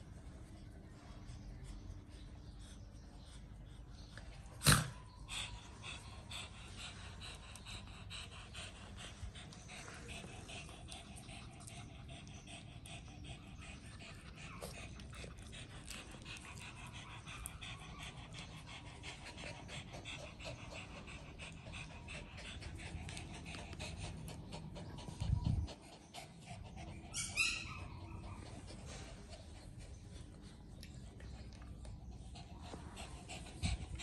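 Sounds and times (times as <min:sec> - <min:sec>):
small dogs panting: 0:00.0 - 0:34.0.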